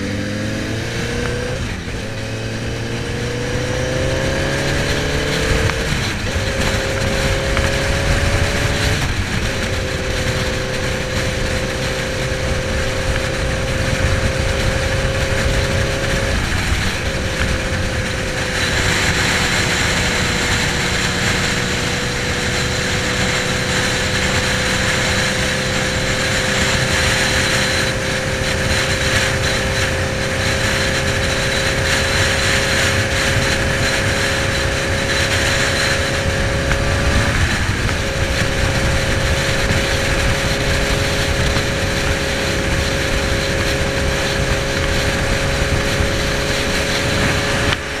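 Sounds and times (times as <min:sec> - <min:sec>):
motorcycle engine cruising: 0:00.0 - 0:48.0
wind noise on microphone: 0:00.0 - 0:48.0.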